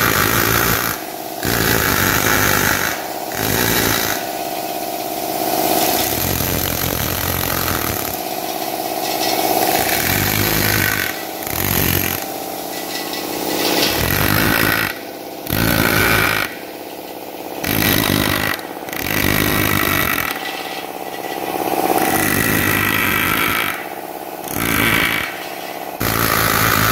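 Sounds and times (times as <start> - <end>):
power chisel hammering stone: 0.0 - 4.6, 5.2 - 12.6, 13.8 - 16.6, 17.6 - 20.5, 22.0 - 25.4, 26.0 - 26.9.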